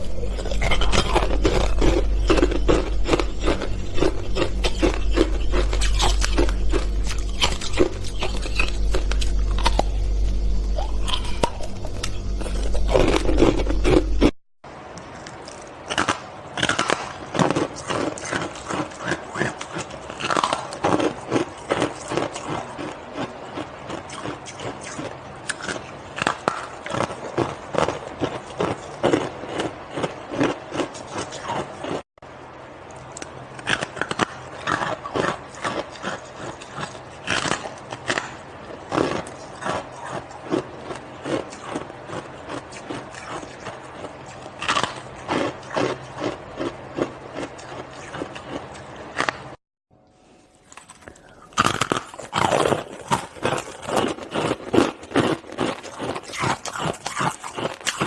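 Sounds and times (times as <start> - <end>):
teeth crunching shaved ice: 0.0 - 14.3, 15.2 - 32.0, 32.8 - 49.6, 50.6 - 58.0.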